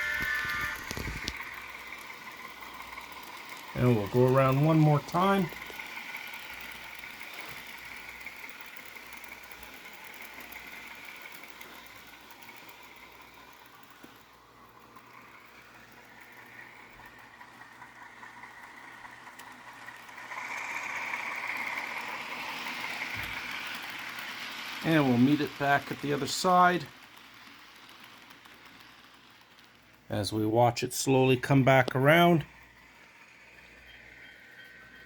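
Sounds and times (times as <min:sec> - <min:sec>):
model train diesel engine drone: 0:00.0 - 0:35.0.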